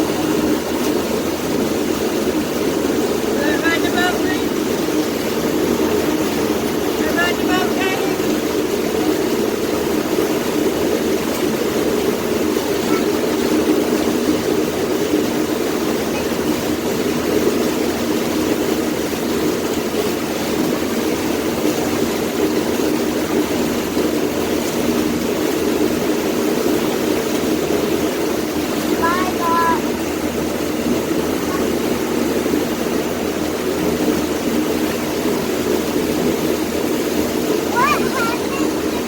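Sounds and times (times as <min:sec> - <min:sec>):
boat engine running: 0:00.0 - 0:39.0
water rushing: 0:00.0 - 0:39.0.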